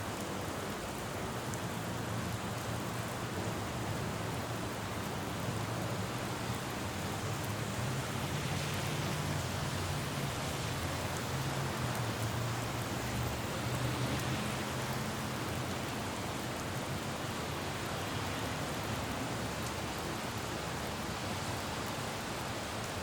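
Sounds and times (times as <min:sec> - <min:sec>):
rain falling on a road: 0:00.0 - 0:23.0
low traffic hum: 0:01.7 - 0:23.0.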